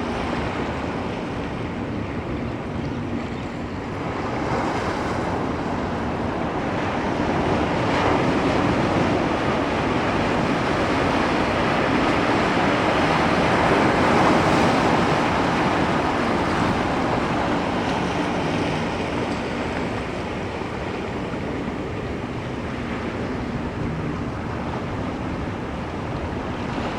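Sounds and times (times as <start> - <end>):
ocean surf roaring: 0.0 - 26.9
wind on microphone: 0.0 - 26.9.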